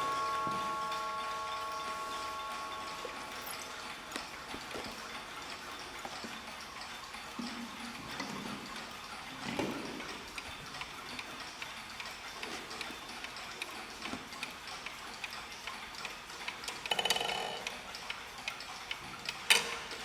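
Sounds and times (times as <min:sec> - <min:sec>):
mechanical clocks ticking: 0:00.0 - 0:20.0.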